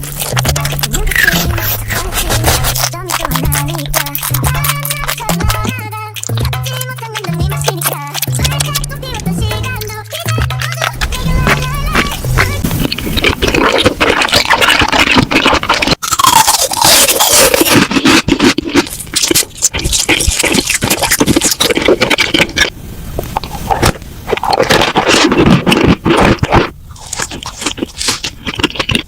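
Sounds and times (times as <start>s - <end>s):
crunchy food being chewed: 0.0s - 29.0s.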